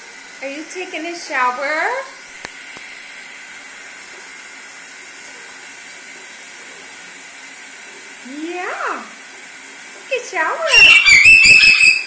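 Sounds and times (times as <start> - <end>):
shower spray running: 0.0 - 12.0.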